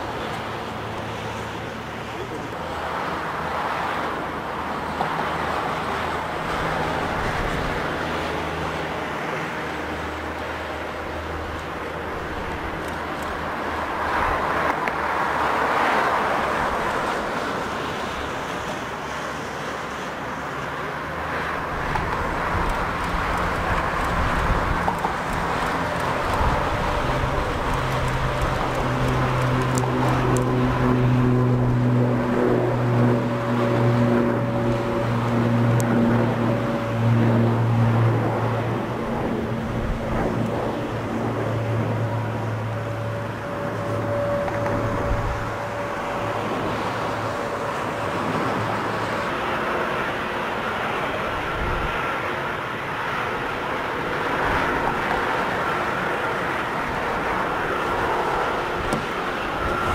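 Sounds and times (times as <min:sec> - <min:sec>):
turboprop airliner engines: 0:00.0 - 0:59.9.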